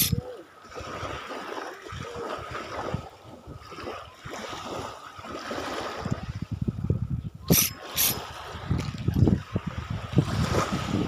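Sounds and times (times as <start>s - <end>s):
small waves washing on sand: 0.0s - 6.9s, 7.5s - 11.0s.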